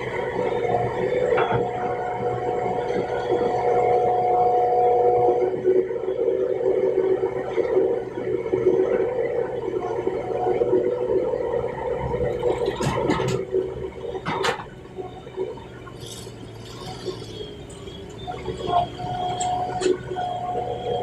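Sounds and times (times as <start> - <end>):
excavator engine and hydraulics humming: 0.0 - 21.0.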